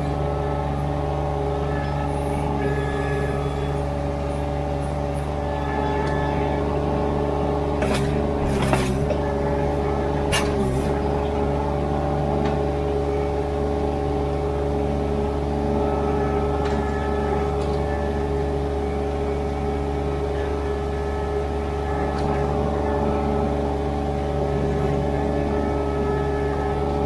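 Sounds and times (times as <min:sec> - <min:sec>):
skid steer engine running: 0:00.0 - 0:27.0.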